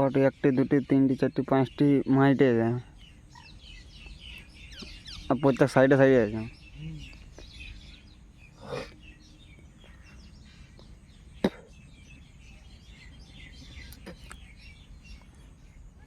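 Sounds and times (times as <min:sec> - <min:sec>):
frogs chirping: 0:00.0 - 0:16.0.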